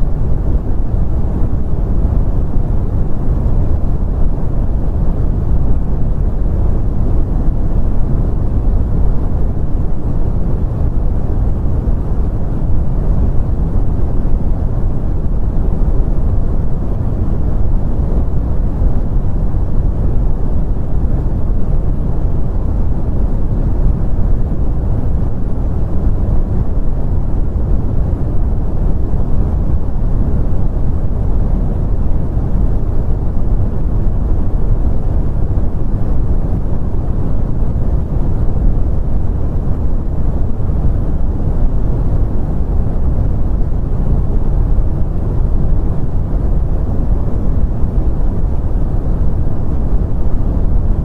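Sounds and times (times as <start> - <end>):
brown noise: 0.0 - 51.0.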